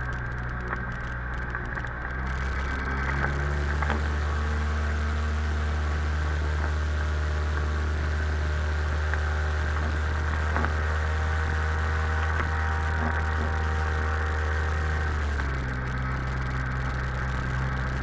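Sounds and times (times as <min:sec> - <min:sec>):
jet ski engine droning: 0:00.0 - 0:18.0.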